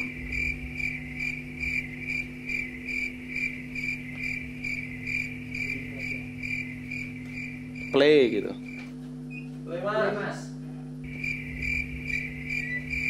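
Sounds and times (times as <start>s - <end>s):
high-pitched chirp: 0.0s - 9.6s, 11.0s - 13.0s
steady low hum: 0.0s - 13.0s.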